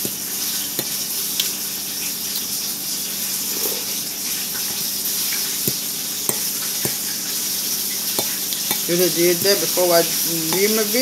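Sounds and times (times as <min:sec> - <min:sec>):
pork sizzling in a pan: 0:00.0 - 0:11.0.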